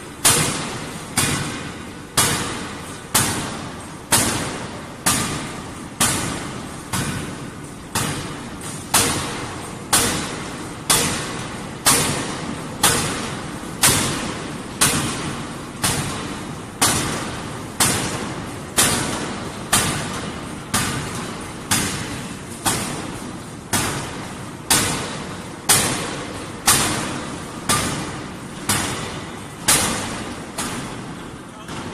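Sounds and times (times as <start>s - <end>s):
forging hammer striking metal: 0.2s - 7.3s, 7.9s - 31.1s.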